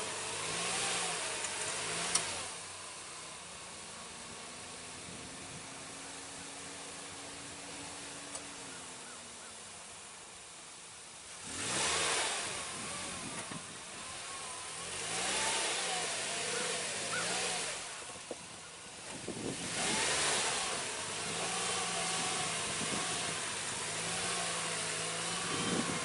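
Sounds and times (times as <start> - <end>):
off-road vehicle engine revving: 0.0 - 10.0, 11.2 - 26.0
wheels spinning on loose ground: 0.0 - 26.0.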